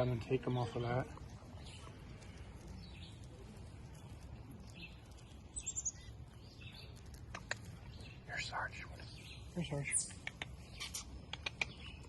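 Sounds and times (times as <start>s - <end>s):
faint small birds chirping: 0.0s - 12.0s.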